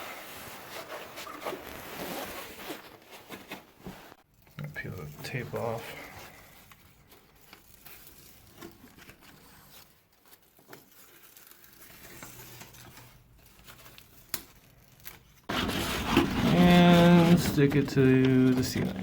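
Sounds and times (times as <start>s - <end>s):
paper crinkling and rustling: 0.0s - 19.0s.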